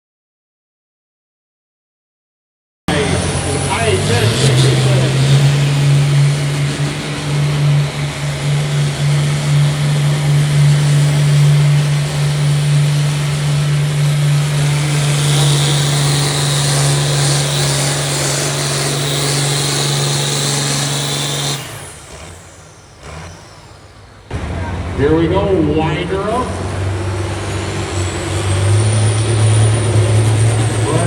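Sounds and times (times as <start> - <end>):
high whine: 2.9 - 31.0
tractor engine running hard: 2.9 - 31.0.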